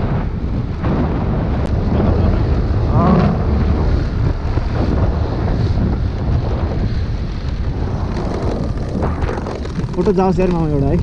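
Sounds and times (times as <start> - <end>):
wind buffeting microphone: 0.0 - 11.0
scooter engine droning: 1.8 - 11.0.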